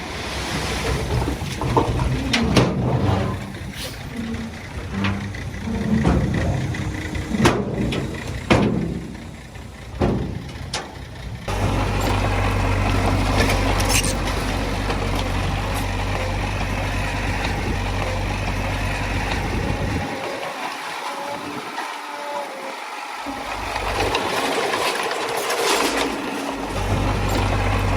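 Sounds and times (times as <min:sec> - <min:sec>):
heavy machinery diesel engine: 0:00.0 - 0:27.9.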